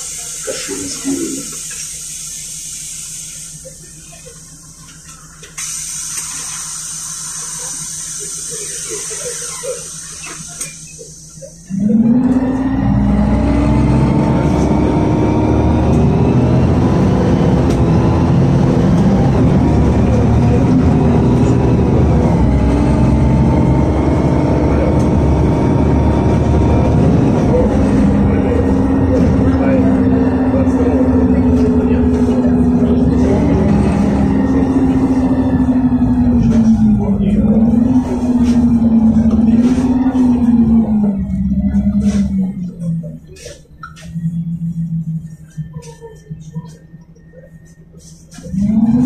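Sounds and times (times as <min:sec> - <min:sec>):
bus engine low drone: 0:00.0 - 0:49.0
road noise: 0:00.0 - 0:49.0.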